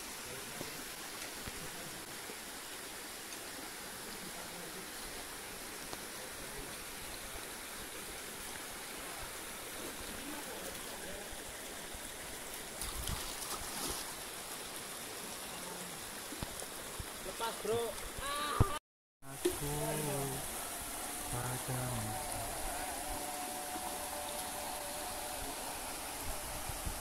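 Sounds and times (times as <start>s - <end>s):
river water rushing over stones: 0.0s - 18.6s, 19.3s - 27.0s.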